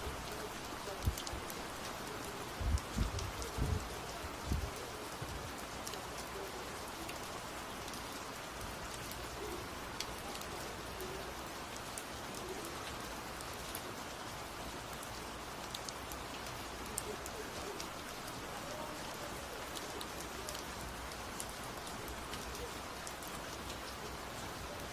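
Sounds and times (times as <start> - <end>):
rain falling: 0.0 - 24.9.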